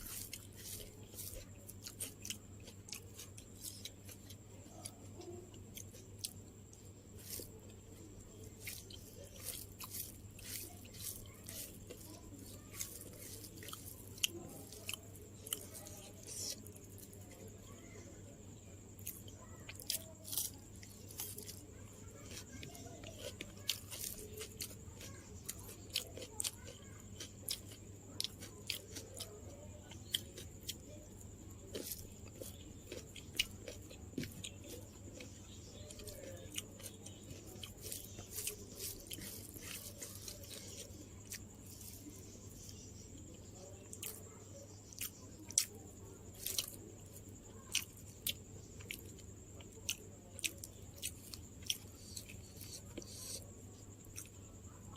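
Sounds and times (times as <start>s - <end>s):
person chewing crunchy food: 0.0s - 17.7s, 18.9s - 54.9s.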